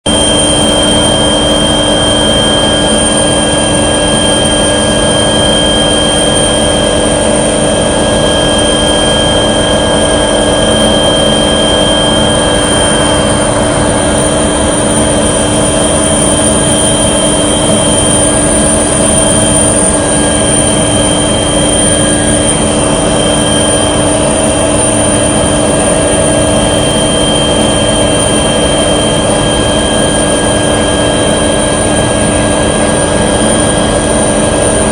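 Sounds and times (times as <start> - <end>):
aircraft engine and propeller drone: 0.0 - 34.9
steady whining tones: 0.1 - 34.9.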